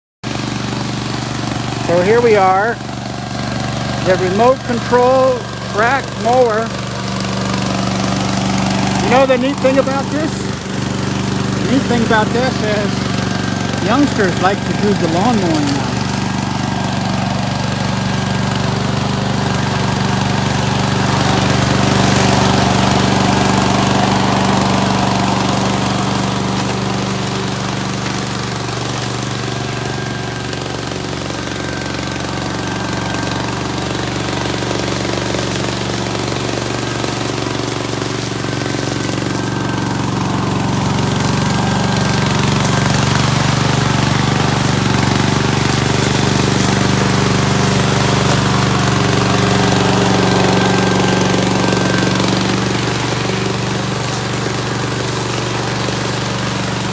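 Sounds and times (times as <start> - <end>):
lawn mower engine running: 0.2 - 56.9.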